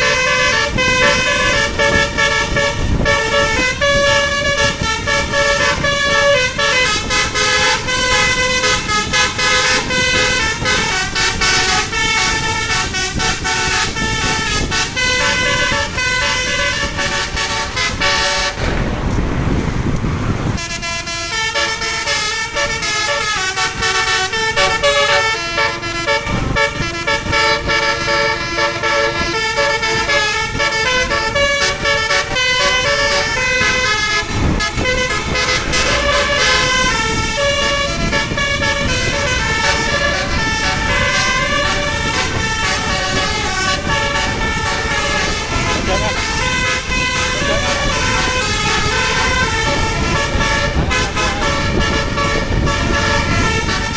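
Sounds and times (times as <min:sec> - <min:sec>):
multi-tone bus horn melodies: 0:00.0 - 0:53.9
rushing noise: 0:00.0 - 0:53.9.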